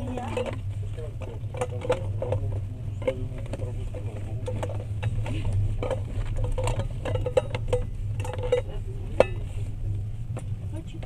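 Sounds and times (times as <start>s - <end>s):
train carriage running rumble: 0.0s - 11.0s.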